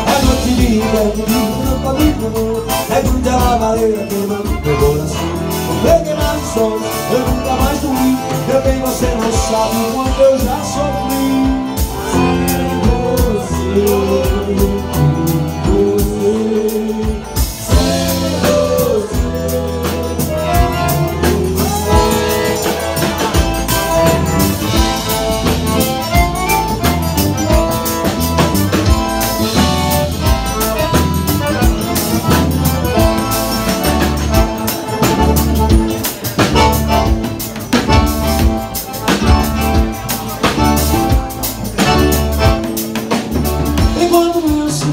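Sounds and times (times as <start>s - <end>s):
accordion melody: 0.0s - 44.9s
bass drum beat: 0.0s - 44.9s
bass guitar: 0.0s - 44.9s
guitar: 0.0s - 44.9s.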